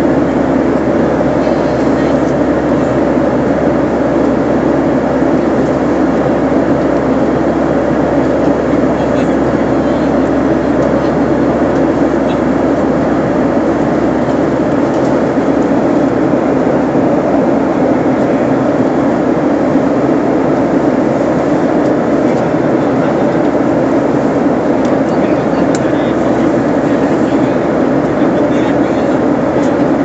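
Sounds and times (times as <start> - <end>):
airliner engine drone: 0.0 - 30.0.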